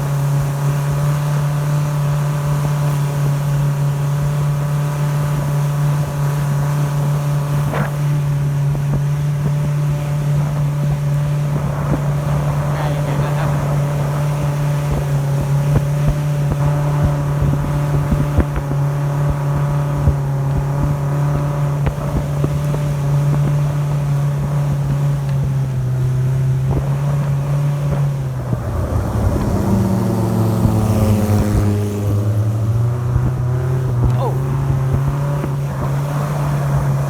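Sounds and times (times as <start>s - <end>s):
speedboat engine running: 0.0s - 37.0s
higher engine note: 1.8s - 37.0s.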